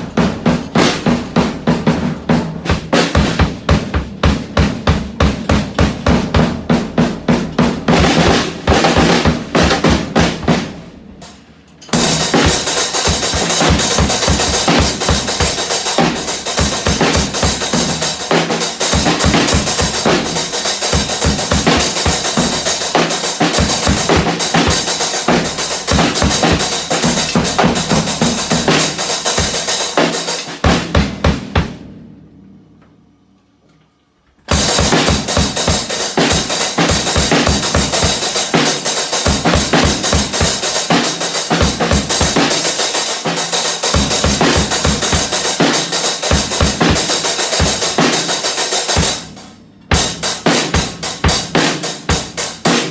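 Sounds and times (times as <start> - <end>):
drum kit playing: 0.0 - 32.3, 34.5 - 52.9.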